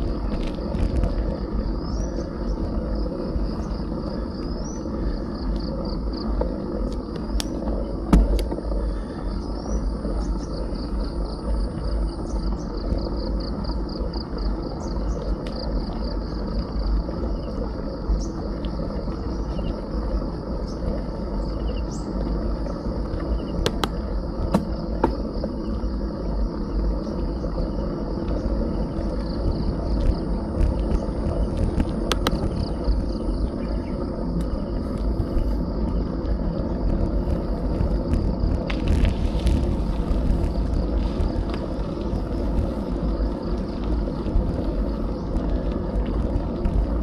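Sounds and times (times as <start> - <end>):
insects trilling: 0.0 - 47.0
wind and riding noise: 0.0 - 47.0.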